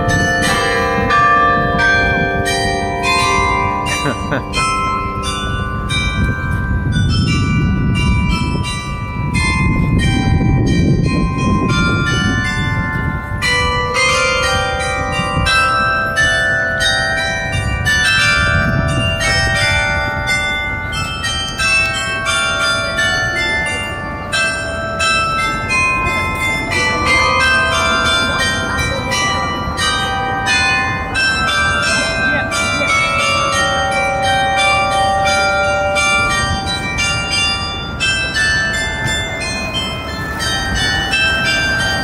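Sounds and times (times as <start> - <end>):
carillon bells ringing a tune: 0.0 - 42.0.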